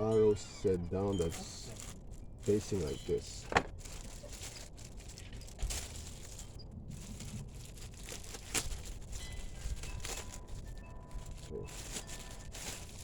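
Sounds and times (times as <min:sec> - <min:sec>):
air filter rustling: 0:00.0 - 0:13.0.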